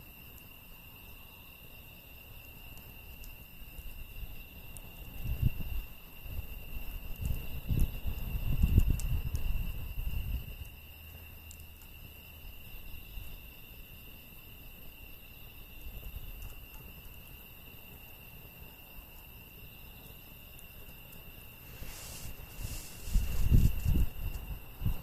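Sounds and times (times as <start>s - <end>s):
insect chorus: 0.0s - 25.0s
firewood crackling: 1.6s - 25.0s.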